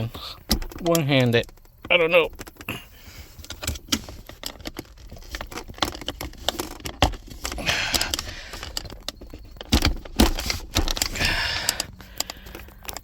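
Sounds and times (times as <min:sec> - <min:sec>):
plastic clicking and knocking: 0:00.2 - 0:02.8, 0:03.4 - 0:13.0.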